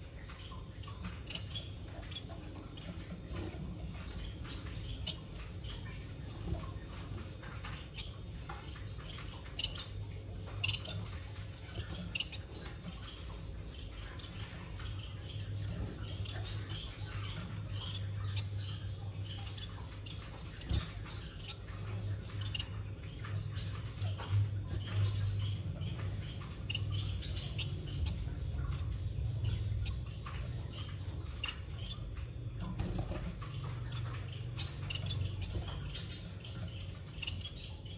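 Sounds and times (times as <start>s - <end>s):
chicks peeping: 0.0s - 37.9s
steady low hum: 0.0s - 37.9s.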